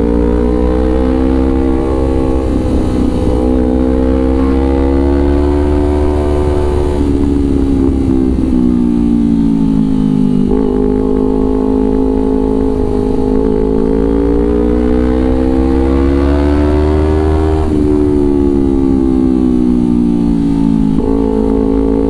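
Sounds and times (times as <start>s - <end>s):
motorcycle engine revving: 0.0s - 22.0s
wind rumble on microphone: 0.0s - 22.0s.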